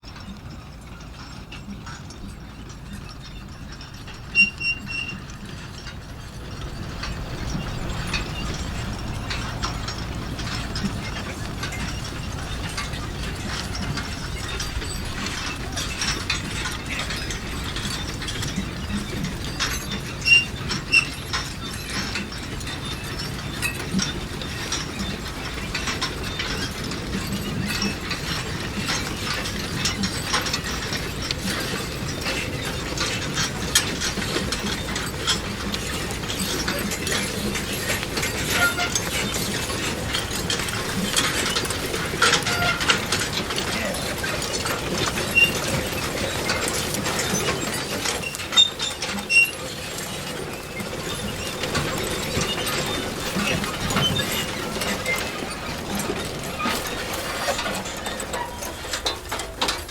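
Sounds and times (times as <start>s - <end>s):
manure spreader clattering: 0.1s - 59.9s
metal clanks: 1.0s - 59.9s.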